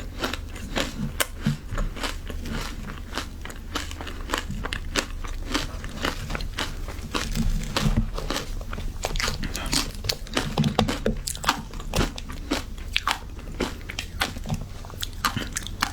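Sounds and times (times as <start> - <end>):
ice crunching between teeth: 0.0 - 15.9.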